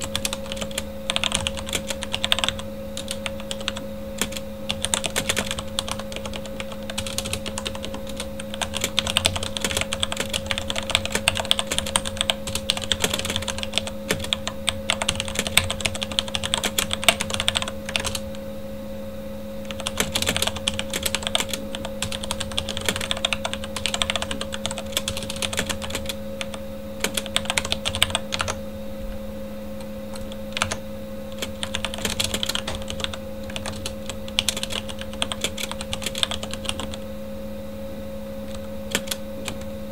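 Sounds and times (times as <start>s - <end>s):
fast typing on mechanical keyboard: 0.0s - 18.3s, 19.7s - 28.6s, 30.1s - 37.0s, 38.5s - 39.7s
computer fan humming: 0.0s - 39.9s.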